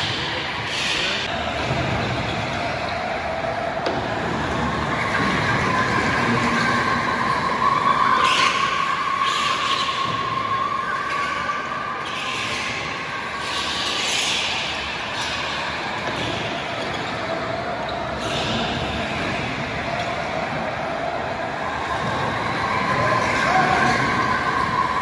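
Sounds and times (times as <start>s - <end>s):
go-kart motors whining: 0.0s - 25.0s.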